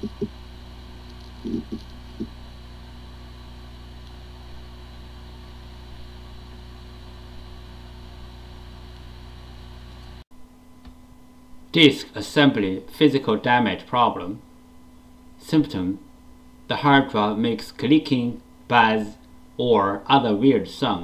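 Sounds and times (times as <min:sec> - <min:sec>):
hard drive spinning hum: 0:00.0 - 0:21.0.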